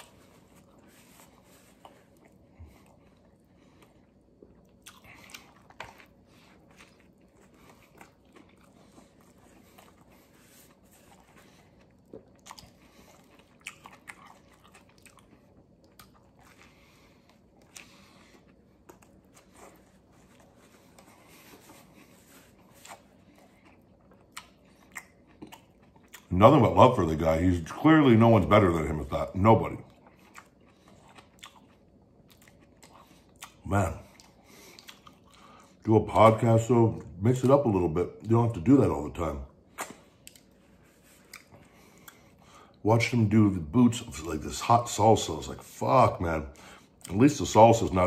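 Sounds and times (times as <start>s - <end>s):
chewing sandwich: 0.0s - 48.0s.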